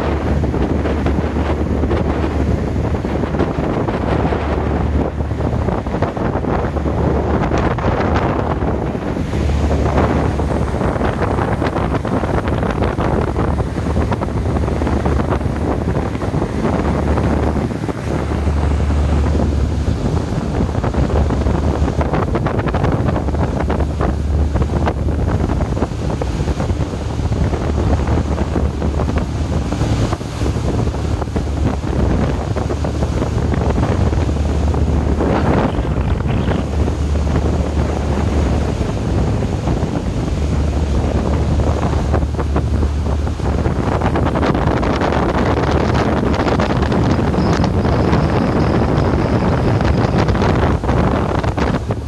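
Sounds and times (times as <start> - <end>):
low rumble: 0.0 - 52.0
rushing water: 0.0 - 52.0
wind buffeting microphone: 0.0 - 52.0.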